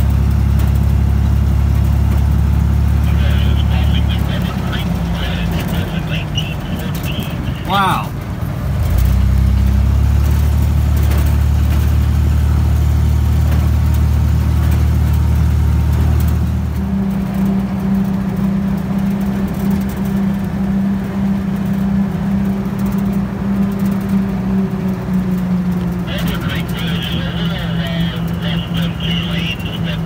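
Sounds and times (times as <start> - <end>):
military vehicle engine drone: 0.0 - 30.0.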